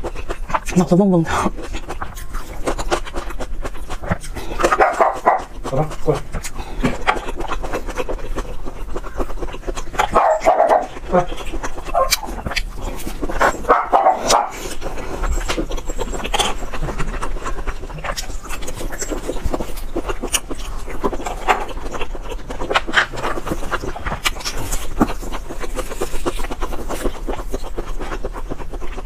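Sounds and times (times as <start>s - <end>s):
chewing and lip-smacking: 0.0s - 29.0s.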